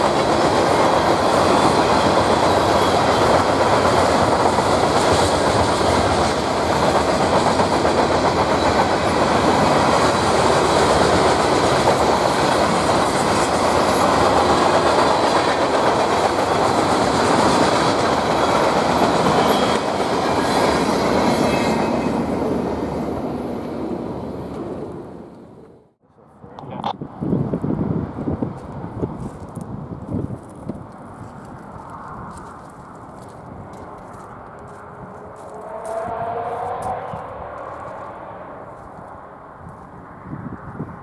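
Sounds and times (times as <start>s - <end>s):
train wheels clattering on rails: 0.0s - 24.9s, 28.3s - 40.0s.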